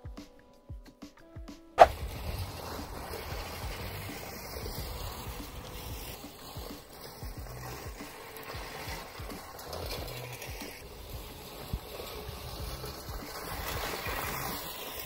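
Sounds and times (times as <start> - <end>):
reel lawn mower whirring: 1.8 - 15.0.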